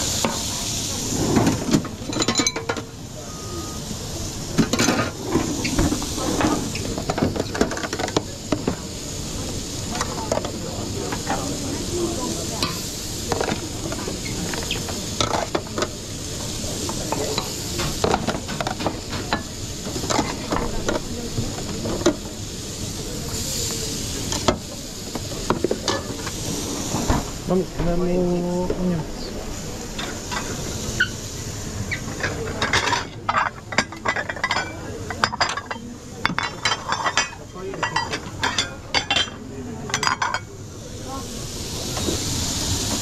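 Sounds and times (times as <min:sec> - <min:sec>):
food sizzling in a hot pan: 0:00.0 - 0:43.0.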